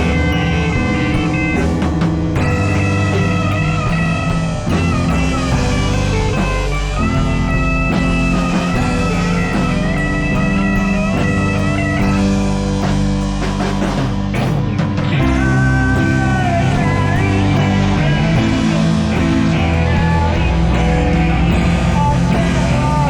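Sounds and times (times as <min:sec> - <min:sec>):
bass guitar: 0:00.0 - 0:23.0
drum kit: 0:00.0 - 0:23.0
lead electric guitar melody: 0:00.0 - 0:23.0.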